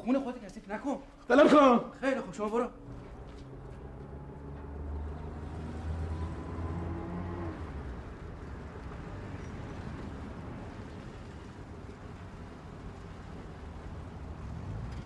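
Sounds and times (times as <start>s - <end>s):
car engine revving: 2.4s - 15.0s.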